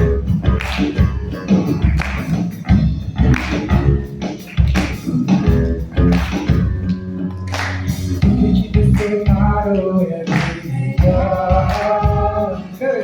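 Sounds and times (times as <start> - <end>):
electric bass line: 0.0 - 13.0
steady drum beat: 0.0 - 13.0.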